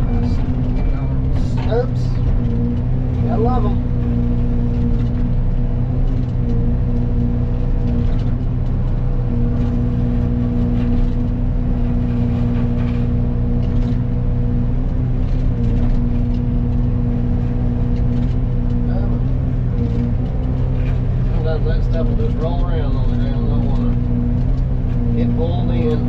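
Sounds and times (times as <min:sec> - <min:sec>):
excavator engine drone: 0:00.0 - 0:26.0.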